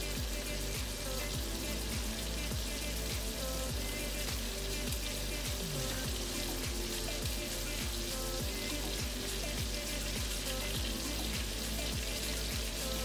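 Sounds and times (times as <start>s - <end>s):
music with deep bass beat: 0.0s - 13.0s
pork chops sizzling in oil: 0.0s - 13.0s.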